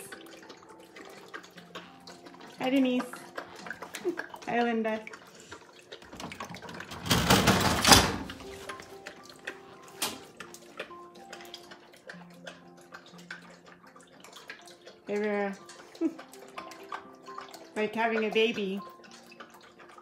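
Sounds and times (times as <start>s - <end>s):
puppy lapping water from metal bowl: 0.0s - 20.0s.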